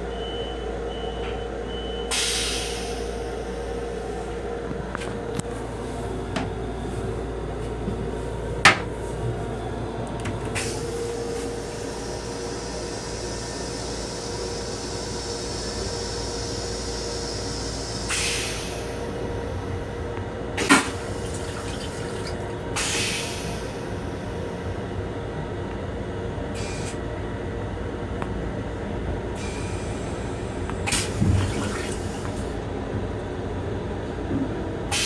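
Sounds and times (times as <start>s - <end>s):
railcar hum and rumble: 0.0s - 35.0s.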